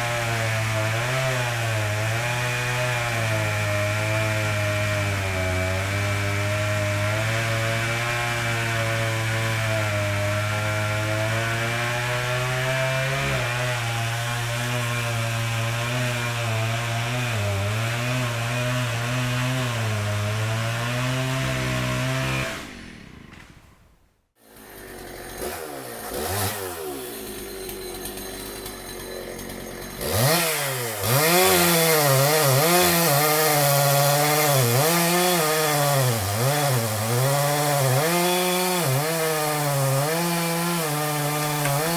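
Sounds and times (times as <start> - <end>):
chainsaw running: 0.0 - 23.8, 24.4 - 41.9
chainsaw cutting wood: 0.0 - 41.9.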